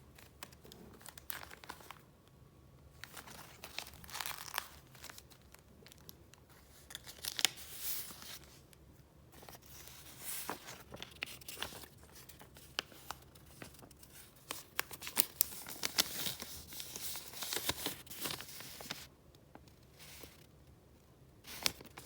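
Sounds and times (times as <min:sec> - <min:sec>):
paper rustling and crinkling: 0:00.1 - 0:02.0, 0:03.0 - 0:08.6, 0:09.4 - 0:19.1, 0:21.5 - 0:22.0.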